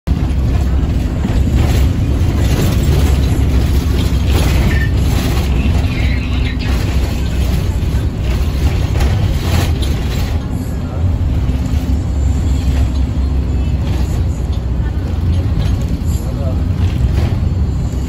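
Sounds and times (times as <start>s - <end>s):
engine and road rumble: 0.0s - 18.0s
body and fittings rattling: 0.1s - 17.8s.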